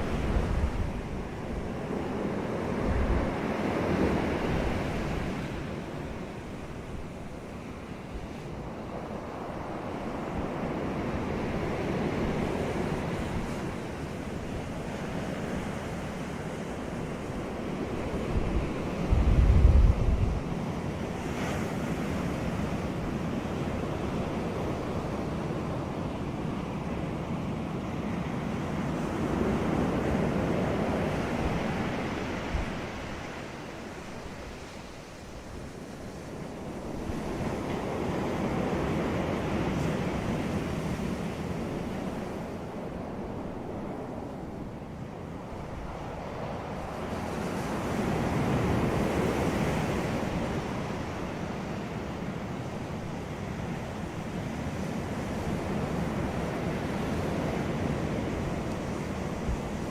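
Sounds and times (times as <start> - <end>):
sea surf washing onto beach: 0.0 - 59.9
wind buffeting microphone: 0.0 - 59.9.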